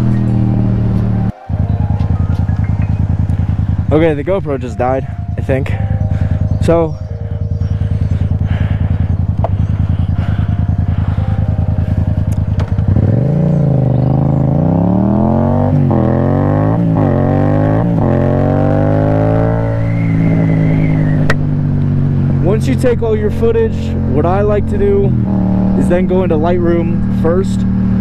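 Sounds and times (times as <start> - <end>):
motorcycle engine idling and accelerating: 0.0 - 28.0.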